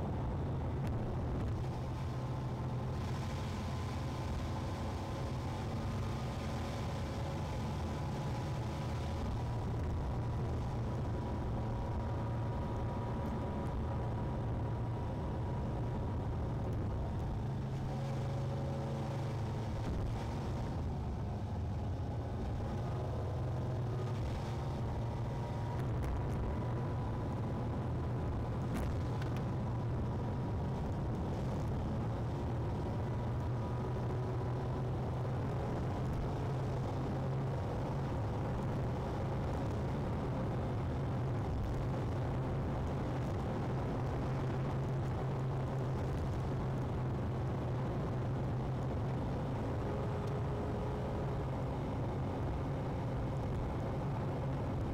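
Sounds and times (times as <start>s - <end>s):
car engine hum: 0.0s - 54.9s
road and tyre noise: 0.0s - 54.9s.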